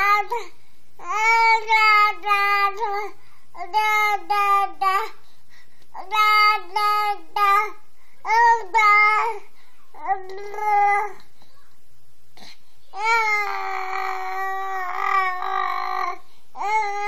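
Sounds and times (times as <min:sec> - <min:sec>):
toddler babbling: 0:00.0 - 0:05.1, 0:06.0 - 0:11.7, 0:12.9 - 0:17.0.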